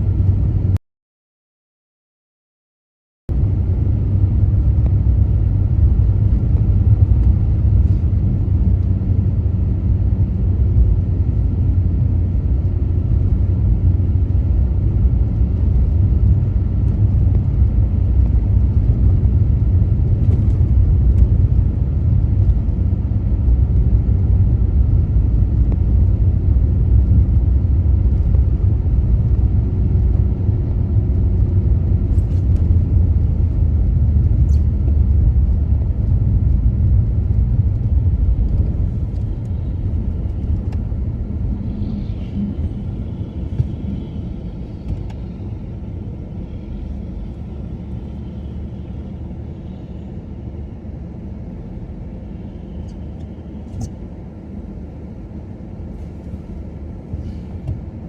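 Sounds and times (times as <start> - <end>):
car engine rumble: 0.0 - 0.8, 3.3 - 58.0
road noise: 0.0 - 0.8, 3.3 - 58.0.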